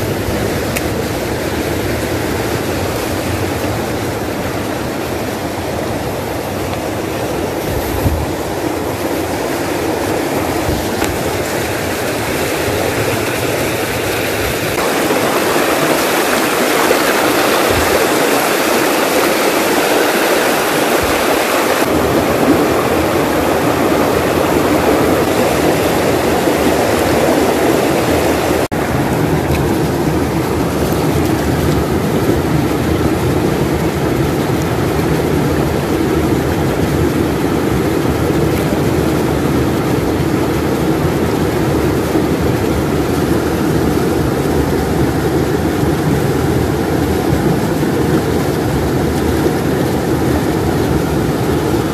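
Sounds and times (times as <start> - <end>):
stream rushing over stones: 0.0 - 51.9.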